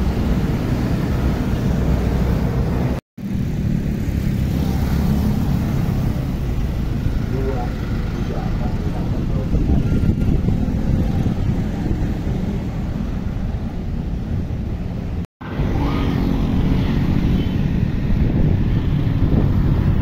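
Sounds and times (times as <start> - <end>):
passing road traffic rumble: 0.0 - 20.0.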